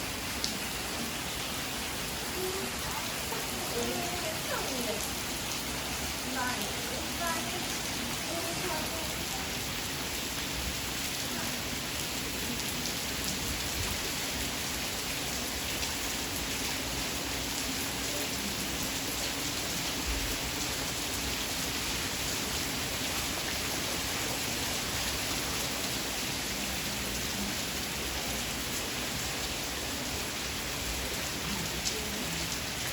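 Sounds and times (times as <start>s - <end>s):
heavy rain pouring: 0.0s - 32.9s
raindrops pattering on surfaces: 0.0s - 32.9s.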